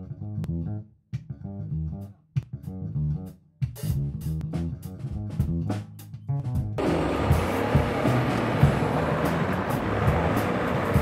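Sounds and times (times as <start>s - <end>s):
bass and guitar music: 0.0s - 11.0s
drums: 1.1s - 1.4s, 2.4s - 11.0s.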